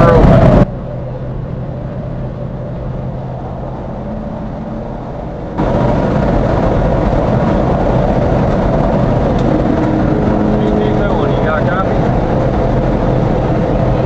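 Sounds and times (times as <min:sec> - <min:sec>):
road noise: 0:00.0 - 0:14.0
truck engine: 0:00.0 - 0:14.0.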